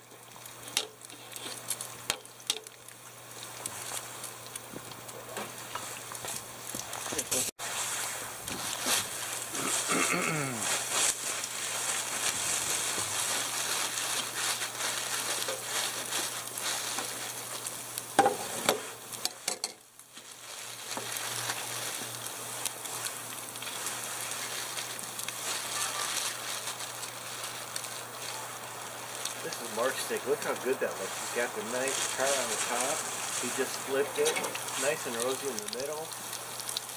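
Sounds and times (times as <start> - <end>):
meat sizzling: 0.0 - 36.9.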